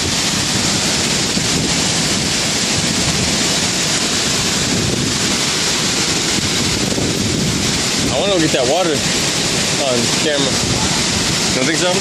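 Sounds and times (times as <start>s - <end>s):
heavy rain: 0.0s - 12.0s
wind buffeting microphone: 0.0s - 12.0s.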